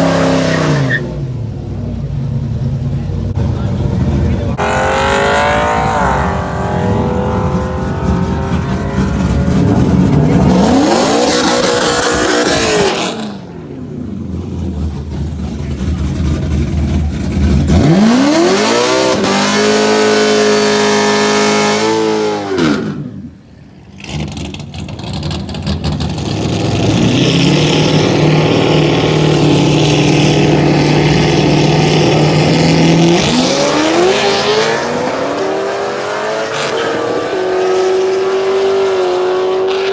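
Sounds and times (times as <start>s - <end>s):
racing engines revving: 0.0s - 39.9s.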